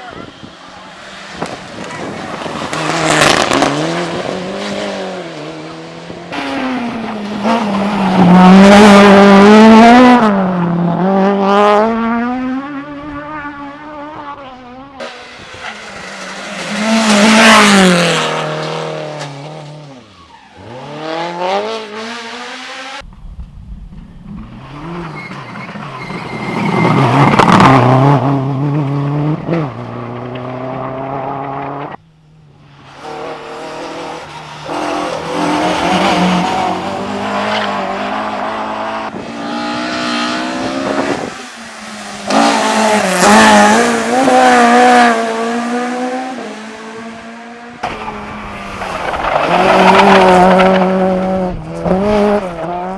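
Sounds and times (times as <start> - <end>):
race car engines revving: 0.0 - 52.9
race cars passing by: 0.0 - 52.9.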